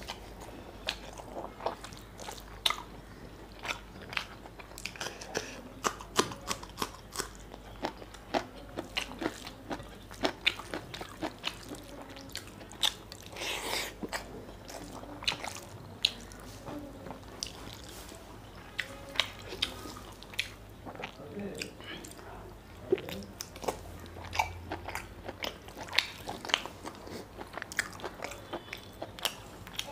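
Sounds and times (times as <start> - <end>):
wet chewing: 0.0 - 29.9.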